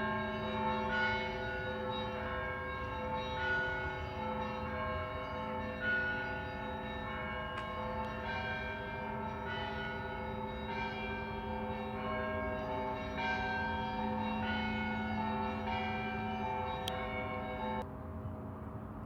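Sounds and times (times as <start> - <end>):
church bells ringing a peal: 0.0 - 17.8.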